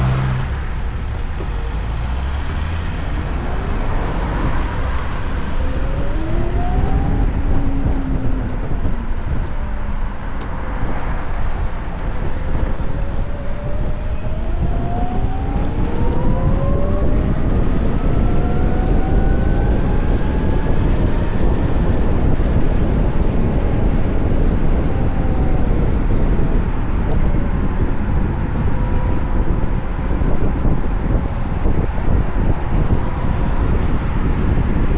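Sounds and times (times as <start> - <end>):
wind noise: 0.0 - 34.9.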